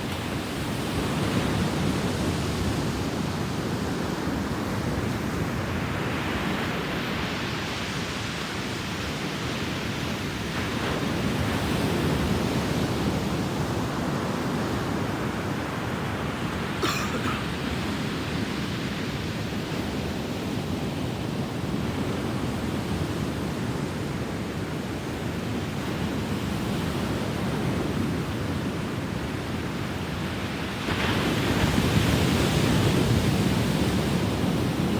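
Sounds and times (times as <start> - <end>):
ocean waves washing onto beach: 0.0 - 34.9.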